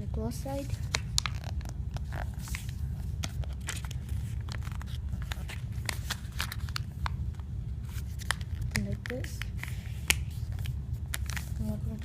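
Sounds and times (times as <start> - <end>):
steady low hum: 0.0 - 12.0
paper being folded and creased: 0.4 - 12.0.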